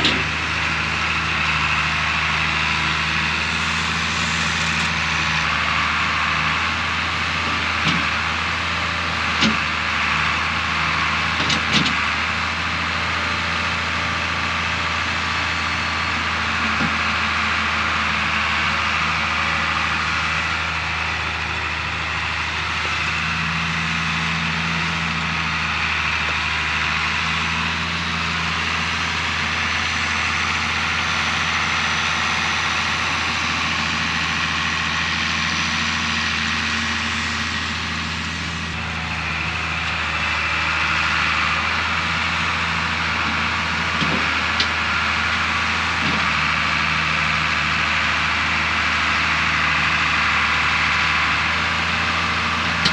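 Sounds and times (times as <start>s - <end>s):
old tractor engine running: 0.0s - 52.9s.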